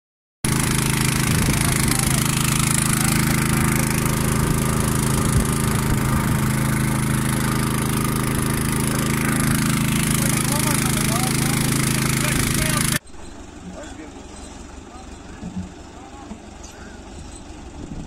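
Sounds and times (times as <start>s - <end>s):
engine-driven water pump running: 0.4s - 18.0s.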